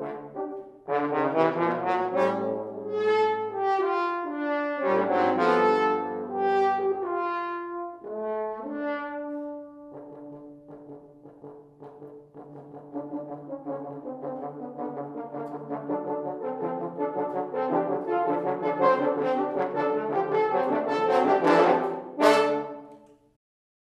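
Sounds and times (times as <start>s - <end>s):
french horn quartet playing: 0.0s - 11.0s, 11.8s - 23.0s.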